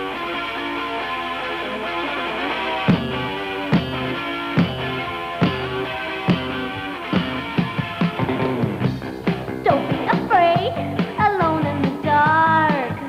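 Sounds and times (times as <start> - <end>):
electric guitar chords: 0.0 - 13.0
drum kit beat: 1.9 - 13.0.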